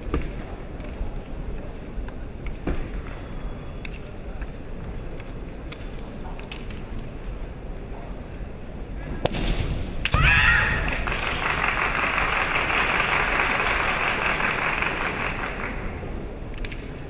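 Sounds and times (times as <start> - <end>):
crowd noise: 0.0 - 17.0.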